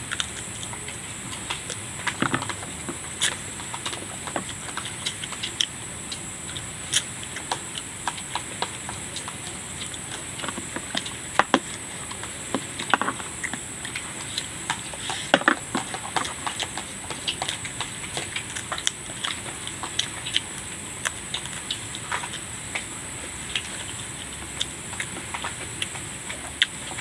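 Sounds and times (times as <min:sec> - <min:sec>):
person chewing food: 0:00.0 - 0:27.0.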